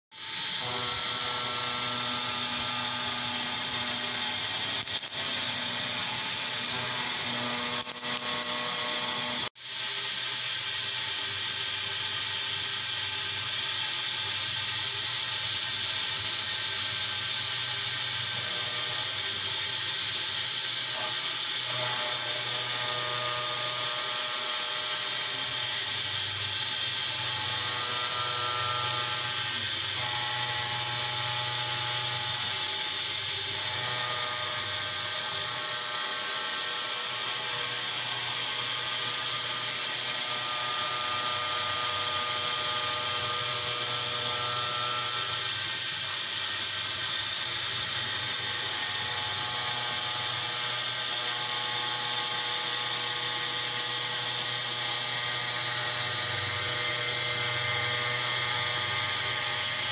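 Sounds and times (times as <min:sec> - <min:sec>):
milling cutter cutting aluminium: 0:00.2 - 0:10.8, 0:11.8 - 0:59.9.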